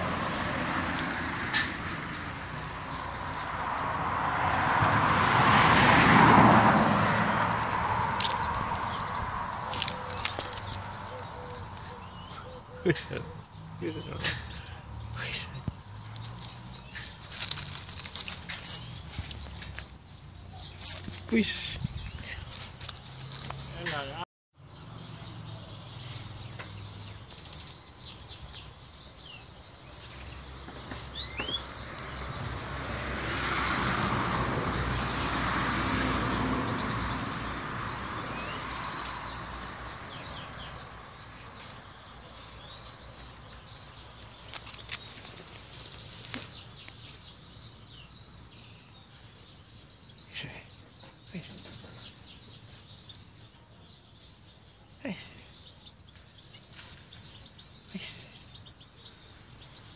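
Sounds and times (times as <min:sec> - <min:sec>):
small birds chirping: 0:00.0 - 0:04.7, 0:07.0 - 0:59.9.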